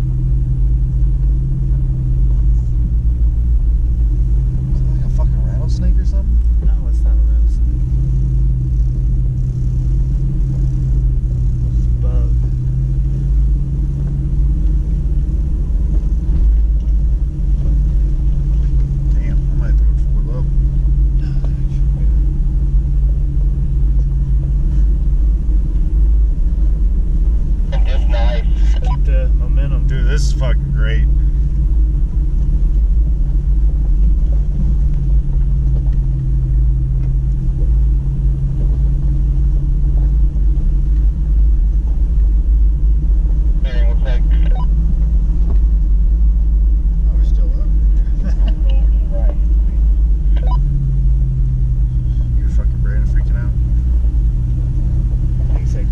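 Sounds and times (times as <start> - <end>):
truck engine rumble: 0.0 - 55.9.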